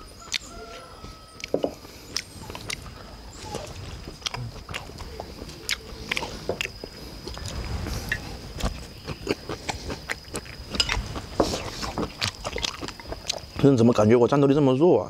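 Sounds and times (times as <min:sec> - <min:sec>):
chewing: 0:00.2 - 0:13.7.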